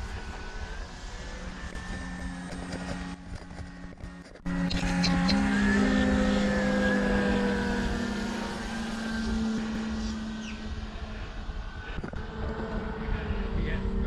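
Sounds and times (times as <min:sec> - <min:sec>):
model planes droning overhead: 0:00.0 - 0:14.0.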